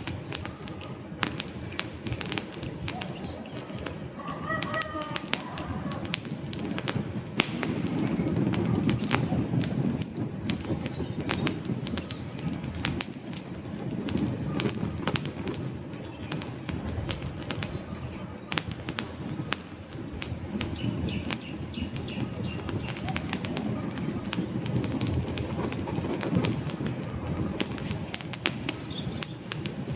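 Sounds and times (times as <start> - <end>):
campfire crackling and popping: 0.0 - 29.9
low rumble of flames: 0.0 - 29.9.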